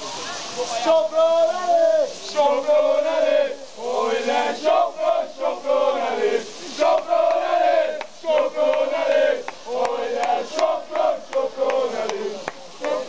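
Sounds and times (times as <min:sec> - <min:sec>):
crowd chanting in unison: 0:00.2 - 0:13.0.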